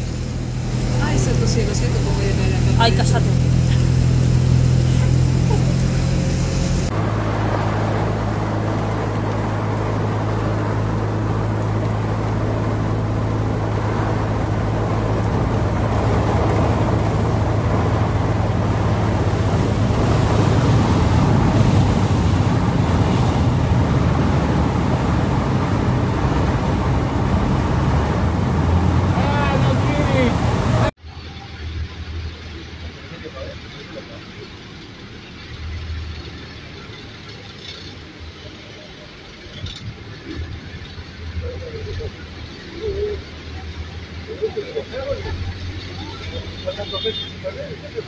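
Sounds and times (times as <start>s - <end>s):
floodwater splashing: 0.0s - 48.0s
rain: 0.0s - 48.0s
vehicle engine hum: 0.0s - 48.0s.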